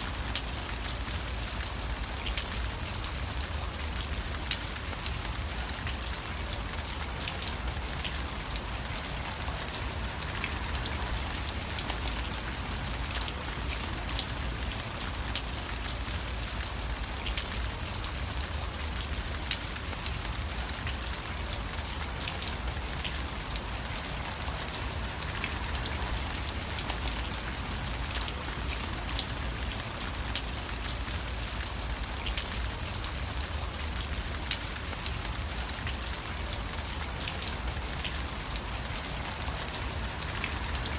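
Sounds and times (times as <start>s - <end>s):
rain hissing: 0.0s - 40.9s
raindrop ticks: 0.0s - 40.9s.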